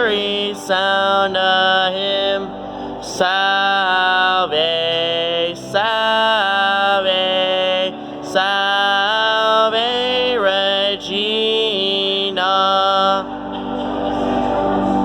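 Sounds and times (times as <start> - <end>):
church organ playing a hymn: 0.0 - 15.0
singer holding long notes: 0.0 - 15.0.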